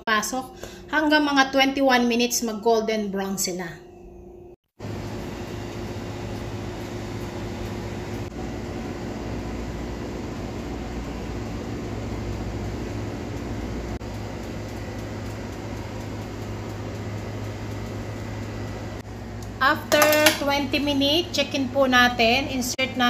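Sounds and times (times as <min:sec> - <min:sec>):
oven humming and whirring: 0:04.2 - 0:23.0.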